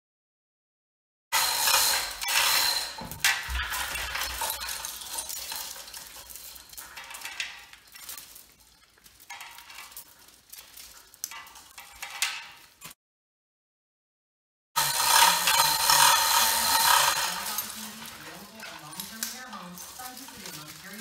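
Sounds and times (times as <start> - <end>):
hoist chain clinking: 1.4 - 12.9, 14.8 - 21.0
copper windings scraping and rustling: 1.4 - 13.0, 14.8 - 21.0.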